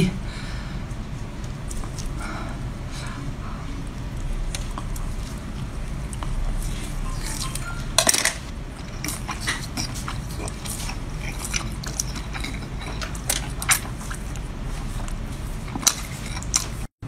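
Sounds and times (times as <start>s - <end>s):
close-up chewing: 0.8s - 7.9s, 8.5s - 16.9s.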